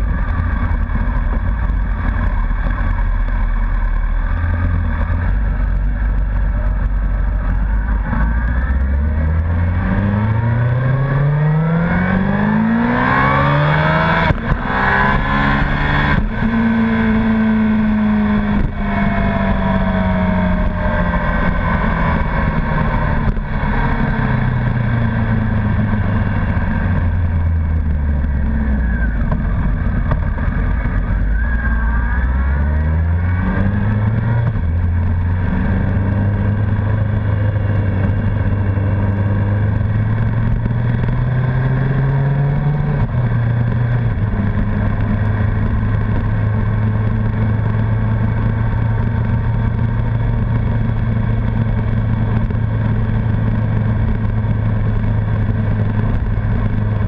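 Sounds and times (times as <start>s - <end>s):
motorcycle engine riding: 0.0s - 57.0s.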